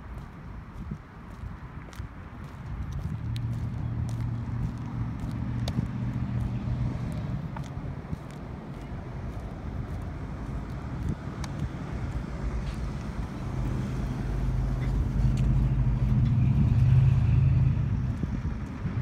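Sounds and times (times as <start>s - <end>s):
wind rumbling on microphone: 0.0s - 19.0s
vehicle engine running: 2.4s - 19.0s.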